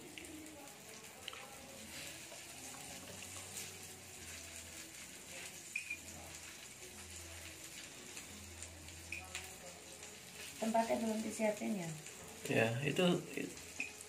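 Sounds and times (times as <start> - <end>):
chicken sizzling on grill plate: 0.0 - 14.0.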